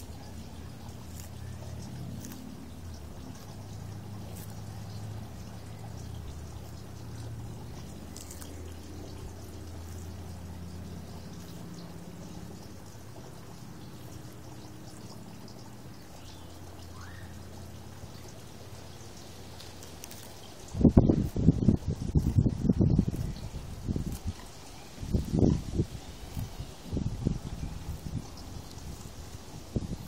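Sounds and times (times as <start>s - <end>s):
steady low hum: 0.0s - 30.0s
tortoise chewing lettuce crunches: 0.0s - 30.0s.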